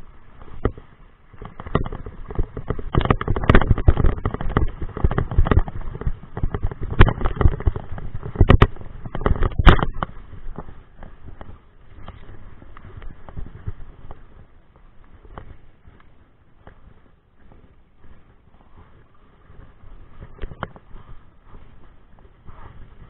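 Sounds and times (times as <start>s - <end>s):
mountain bike rattling over rocks: 0.0s - 18.3s, 19.4s - 23.0s.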